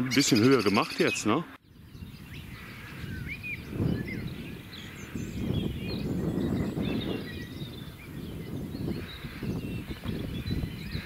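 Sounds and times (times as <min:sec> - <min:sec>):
small birds chirping: 0:00.0 - 0:11.0
wind buffeting microphone: 0:01.6 - 0:11.0.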